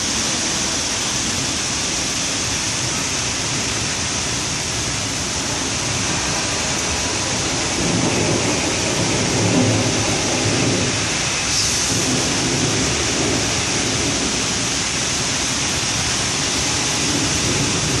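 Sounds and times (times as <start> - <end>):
steady rain: 0.0 - 18.0
rolling thunder rumble: 3.4 - 18.0.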